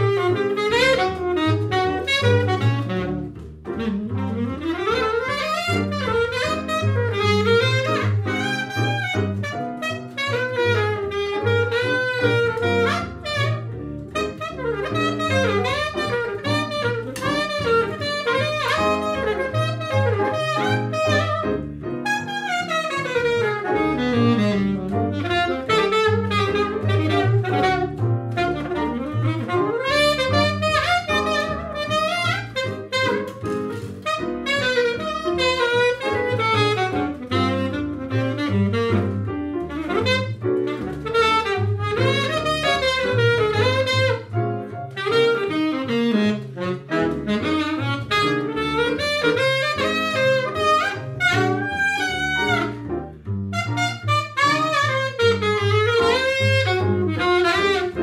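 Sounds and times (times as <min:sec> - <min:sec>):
alto saxophone melody: 0:00.0 - 0:58.0
piano: 0:00.0 - 0:58.0
plucked upright bass: 0:00.0 - 0:58.0.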